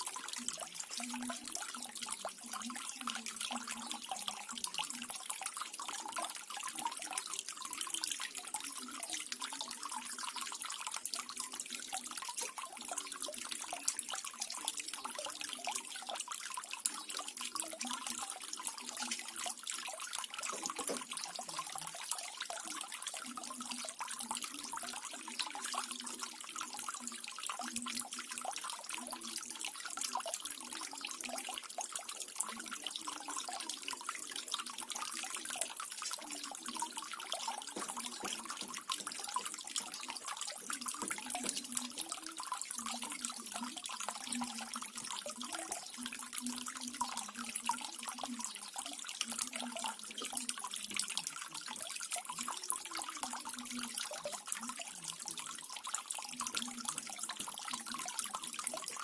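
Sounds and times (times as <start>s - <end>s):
small waterfall splashing: 0.0s - 24.0s, 24.7s - 59.0s
faint water bubbling: 0.0s - 59.0s.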